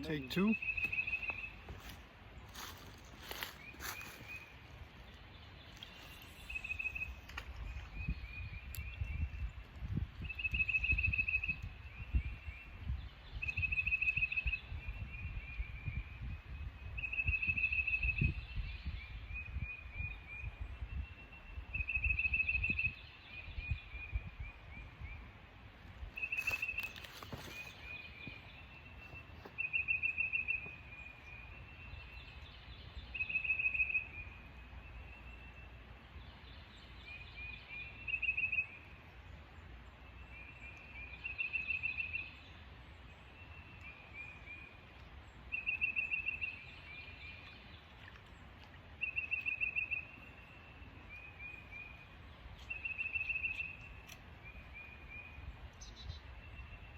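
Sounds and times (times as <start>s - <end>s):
songbird singing: 0.0s - 56.9s.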